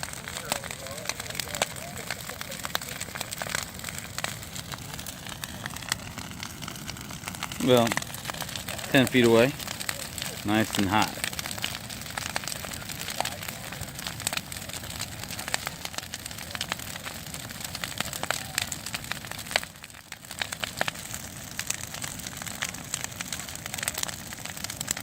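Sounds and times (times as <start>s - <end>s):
fire rushing hiss: 0.0s - 24.9s
bonfire crackling and popping: 0.0s - 25.0s.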